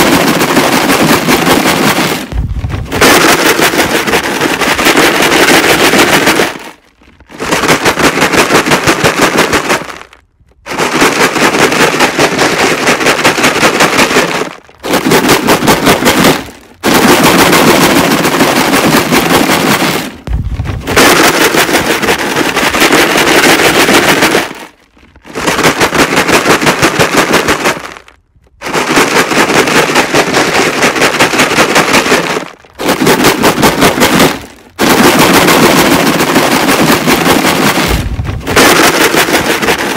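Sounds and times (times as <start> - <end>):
rocks rattling in plastic jug: 0.0 - 39.9.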